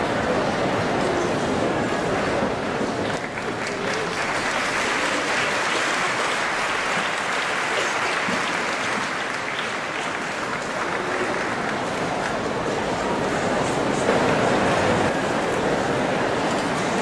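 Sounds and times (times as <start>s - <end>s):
crowd applauding: 2.8s - 17.0s.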